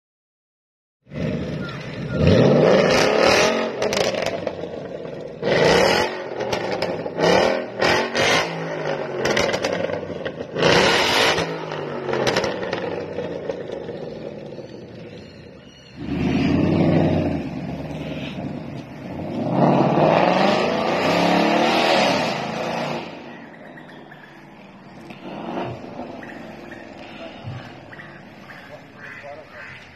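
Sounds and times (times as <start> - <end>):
car engine revving: 1.1 - 15.2, 16.0 - 29.9.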